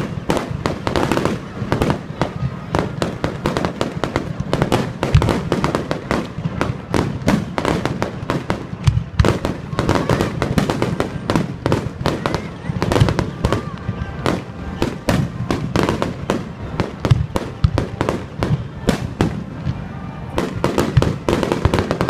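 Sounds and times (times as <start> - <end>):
fireworks bursts and bangs: 0.0 - 22.0.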